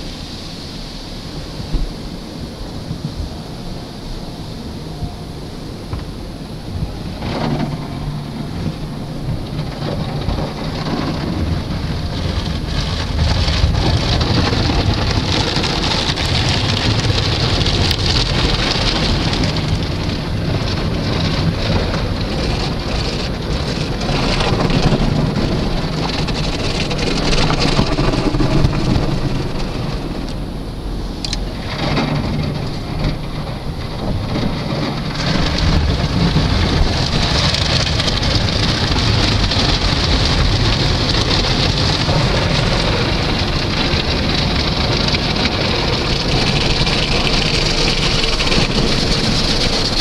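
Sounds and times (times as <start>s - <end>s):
low rumble: 0.0s - 50.0s
water jets spraying on car: 0.0s - 50.0s.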